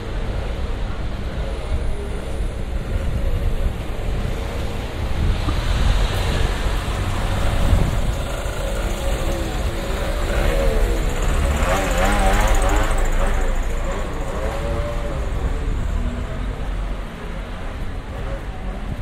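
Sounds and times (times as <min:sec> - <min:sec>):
cars passing slowly: 0:00.0 - 0:19.0
faint voices of passers-by: 0:00.0 - 0:19.0.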